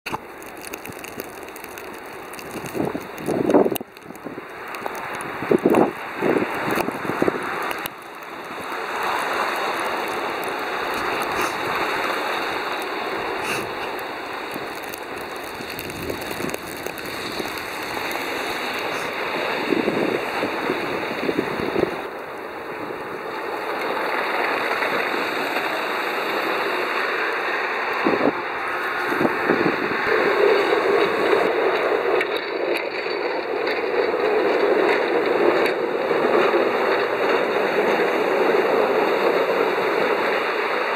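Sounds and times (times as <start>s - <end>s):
tyres swishing through wet snow: 0.1s - 40.9s.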